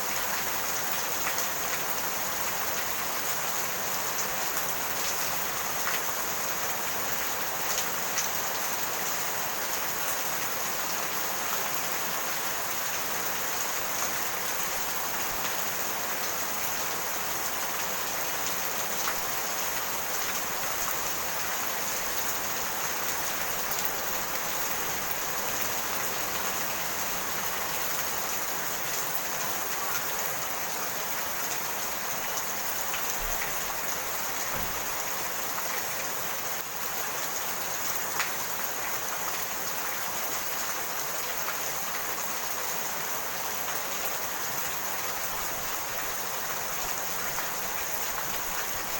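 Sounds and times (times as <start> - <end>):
rain hiss: 0.0 - 48.9.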